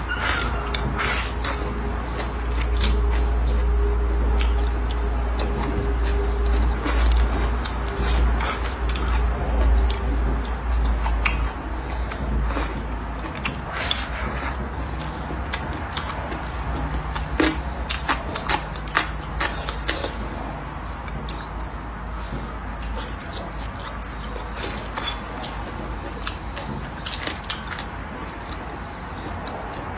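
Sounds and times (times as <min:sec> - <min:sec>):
chewing and lip-smacking: 0:00.0 - 0:29.9.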